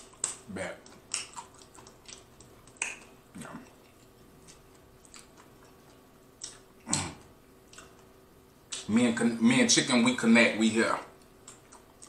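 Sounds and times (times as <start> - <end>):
crunchy chewing: 0.0 - 8.9, 11.0 - 12.0.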